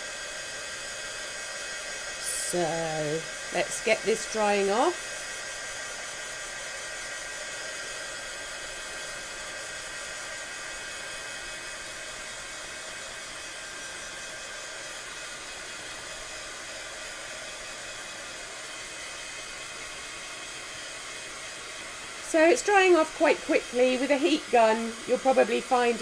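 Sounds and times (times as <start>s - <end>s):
heat gun blowing hot air: 0.0s - 26.0s.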